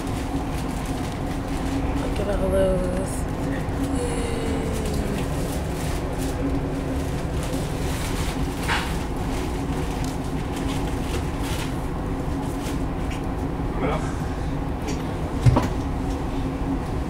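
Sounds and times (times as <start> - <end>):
low steady hum: 0.0 - 17.0
train wheels rumbling on track: 0.0 - 17.0.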